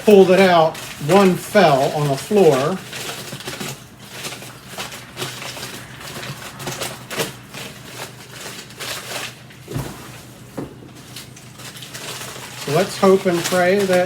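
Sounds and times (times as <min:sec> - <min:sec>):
rustling in cardboard box: 0:00.0 - 0:14.0.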